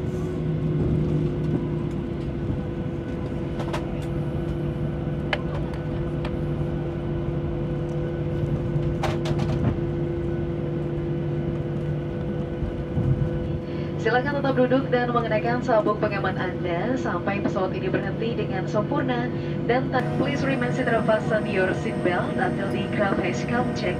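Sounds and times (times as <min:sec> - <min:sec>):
aircraft cabin hum: 0:00.0 - 0:23.9.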